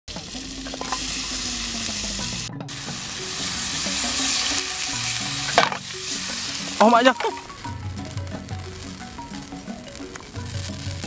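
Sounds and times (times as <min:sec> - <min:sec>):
chilies sizzling in hot oil: 0:00.1 - 0:11.0
water poured into hot oil: 0:00.1 - 0:11.0.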